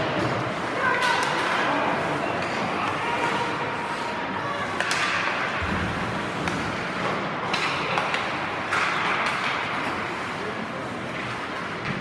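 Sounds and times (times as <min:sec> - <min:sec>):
hockey sticks and puck clicking: 0:00.0 - 0:03.8, 0:04.5 - 0:10.4, 0:11.0 - 0:12.0
skates scraping ice: 0:00.0 - 0:12.0.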